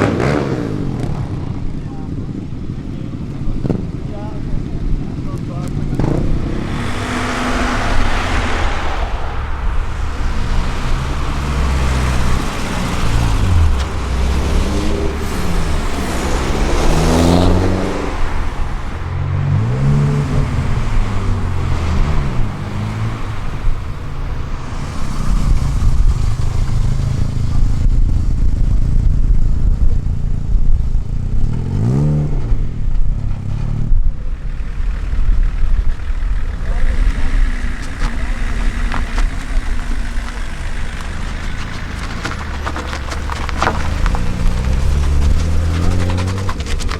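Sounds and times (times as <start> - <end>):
car engines revving hard: 0.0 - 46.9
traffic noise: 0.0 - 46.9.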